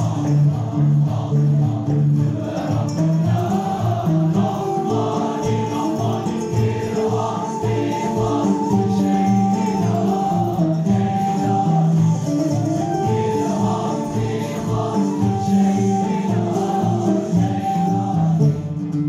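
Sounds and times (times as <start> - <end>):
male choir singing in unison: 0.0 - 18.8
traditional ensemble with percussion: 0.0 - 18.9.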